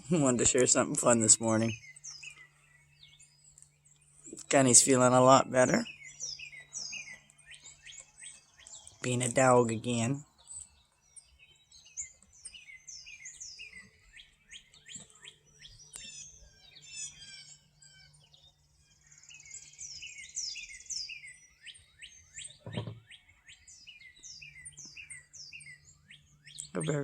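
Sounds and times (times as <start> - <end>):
buzzy bird trill: 0.0 - 27.0
songbirds chirping and singing: 0.0 - 27.0.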